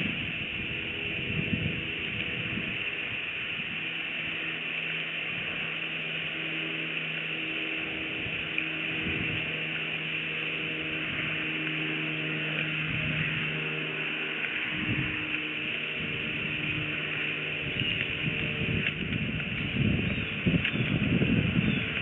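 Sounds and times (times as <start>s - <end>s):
outdoor hiss: 0.0s - 17.7s
distant motor drone: 0.0s - 22.0s.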